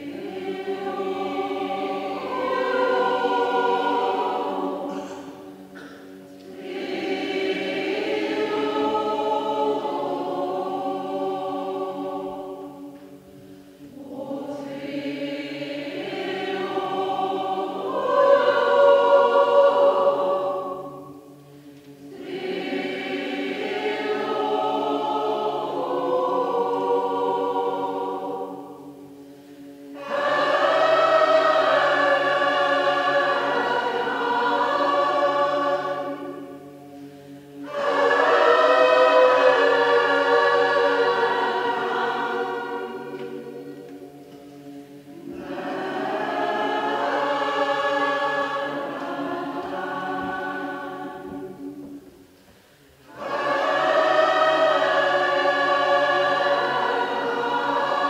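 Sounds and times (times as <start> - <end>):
choir singing: 0.0 - 52.3, 53.0 - 58.0.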